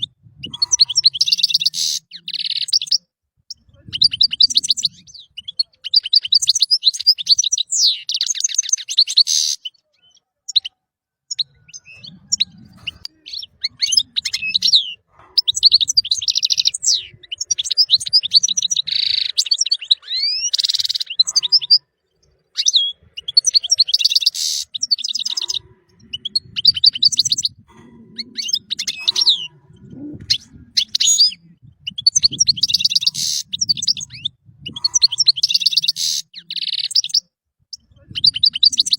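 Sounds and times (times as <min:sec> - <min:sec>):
goldfinch twittering song: 0:00.0 - 0:29.5, 0:30.2 - 0:38.9.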